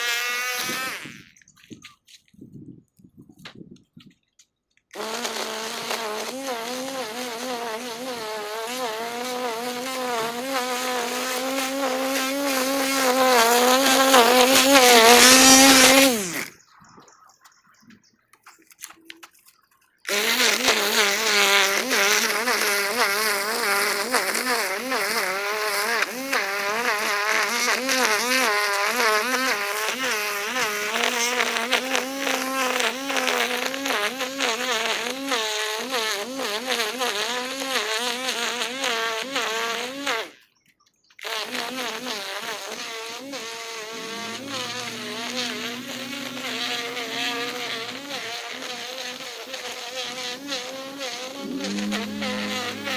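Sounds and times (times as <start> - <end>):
string trimmer running: 0.0 - 1.4, 4.9 - 16.6, 20.1 - 40.4, 41.4 - 52.9.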